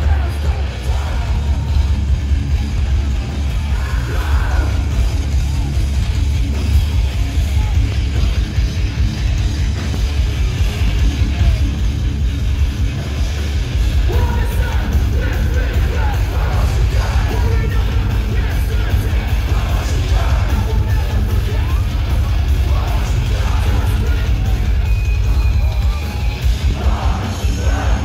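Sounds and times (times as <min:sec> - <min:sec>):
shouted vocals: 0:00.0 - 0:08.3, 0:11.0 - 0:11.9, 0:13.9 - 0:28.0
punk band playing live: 0:00.0 - 0:28.0.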